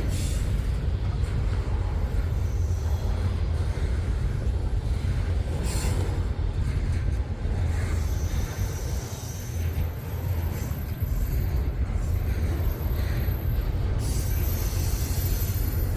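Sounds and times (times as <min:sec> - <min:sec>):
freight train rumbling on rails: 0:00.0 - 0:15.9
train clank: 0:00.0 - 0:15.9.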